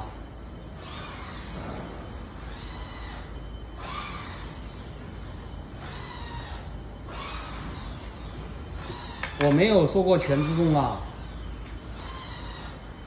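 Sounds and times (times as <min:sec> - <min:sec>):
printing machine humming: 0:00.0 - 0:13.0.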